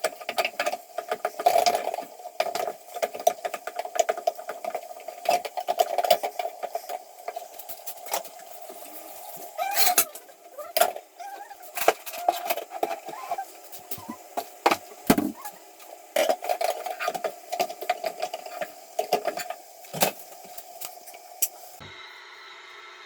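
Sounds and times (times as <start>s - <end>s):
dishes and utensils clinking: 0.1s - 20.2s.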